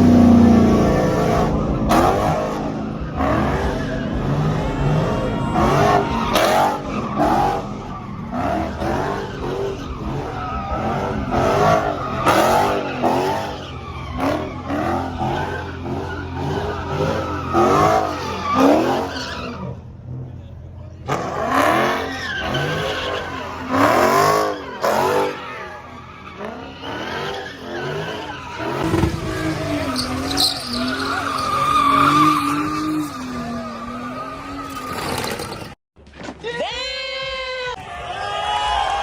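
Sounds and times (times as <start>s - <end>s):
engine droning at high revs: 0.0s - 35.8s
tyres squealing: 0.3s - 19.8s, 21.0s - 35.8s.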